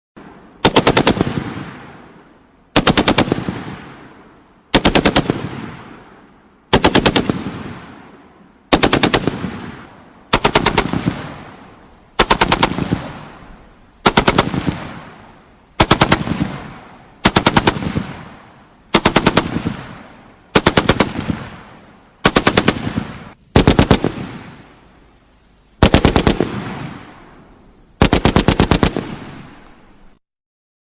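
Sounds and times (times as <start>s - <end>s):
gunfire echo: 0.2s - 15.2s, 15.8s - 24.7s, 25.8s - 27.4s, 28.0s - 29.8s.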